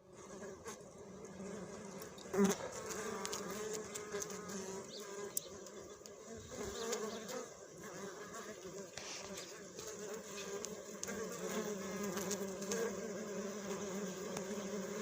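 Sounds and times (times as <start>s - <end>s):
flying insect buzzing: 0.0s - 15.0s.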